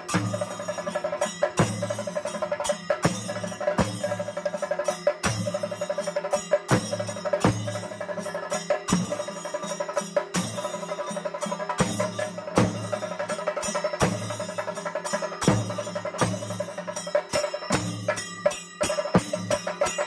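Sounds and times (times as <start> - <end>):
percussion-led music: 0.0 - 20.0
sharp loud percussion strokes: 0.0 - 20.0.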